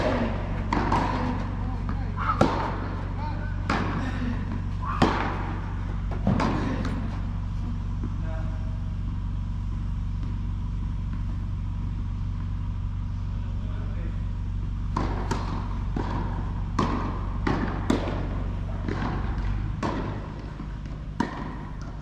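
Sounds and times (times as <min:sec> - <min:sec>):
low hall hum: 0:00.0 - 0:22.0
tennis balls hit and bouncing: 0:00.0 - 0:22.0.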